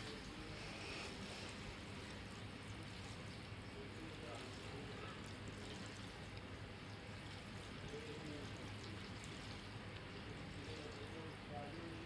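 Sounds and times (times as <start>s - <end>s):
faint hiss with low hum: 0.0s - 12.0s.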